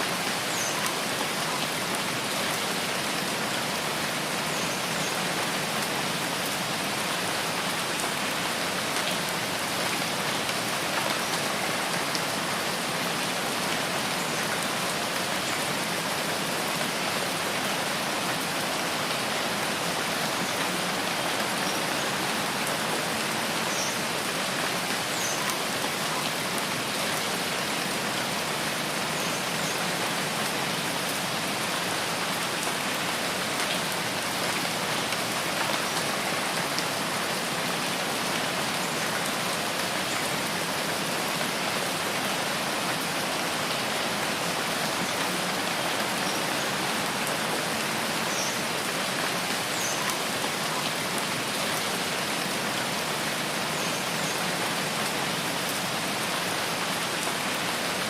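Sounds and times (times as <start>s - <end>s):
rain on foliage and ground: 0.0s - 58.0s.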